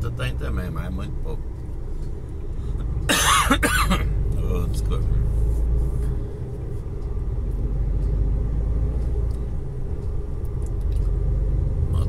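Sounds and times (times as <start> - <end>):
truck engine rumble from cab: 0.0 - 12.0.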